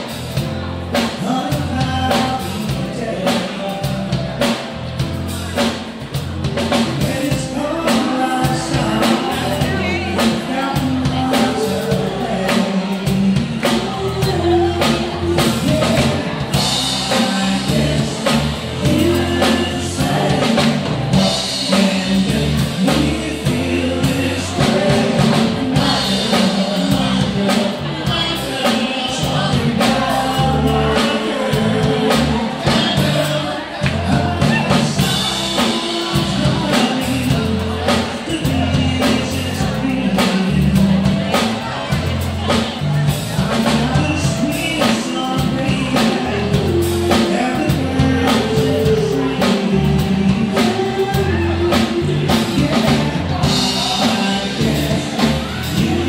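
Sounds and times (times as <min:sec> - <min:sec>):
drum kit beat: 0:00.0 - 0:56.0
live band playing dance music: 0:00.0 - 0:56.0
person singing: 0:00.0 - 0:56.0.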